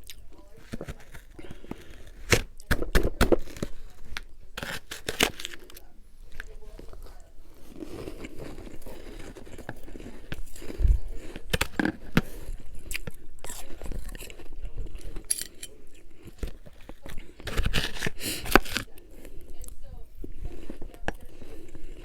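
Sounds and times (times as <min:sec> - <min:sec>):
crunching and chewing frost: 0:00.0 - 0:22.0.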